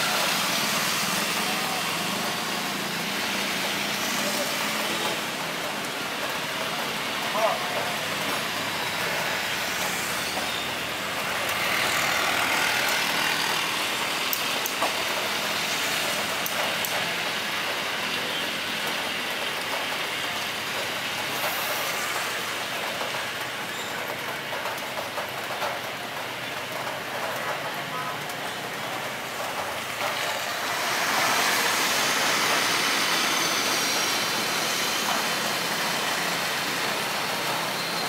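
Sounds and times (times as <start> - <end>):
distant jet engines: 0.0 - 38.0
rain hiss: 0.0 - 38.0.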